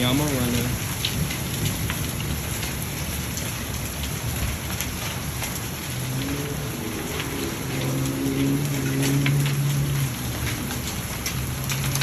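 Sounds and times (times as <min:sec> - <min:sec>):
heavy rain: 0:00.0 - 0:12.0
raindrops ticking on surfaces: 0:00.0 - 0:12.0
wind: 0:00.0 - 0:12.0.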